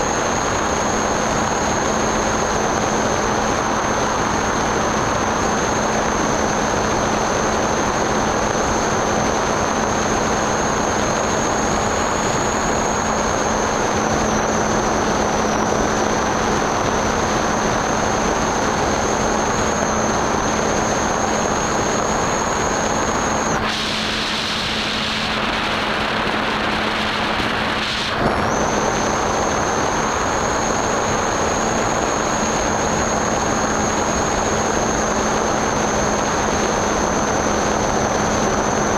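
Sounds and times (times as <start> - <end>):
electric motor whine: 0.0 - 38.9.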